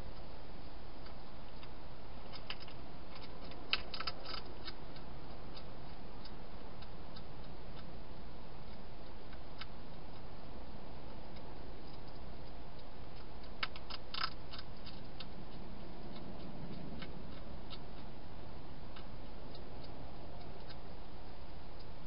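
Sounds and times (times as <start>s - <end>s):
microphone hiss: 0.0s - 22.0s
hedgehog crunching dry food: 1.0s - 22.0s.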